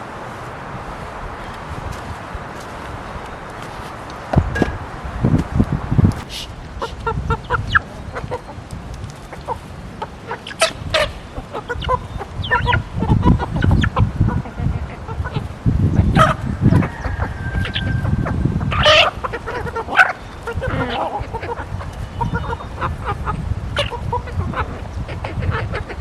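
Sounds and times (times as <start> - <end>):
chickens clucking: 1.4 - 26.0.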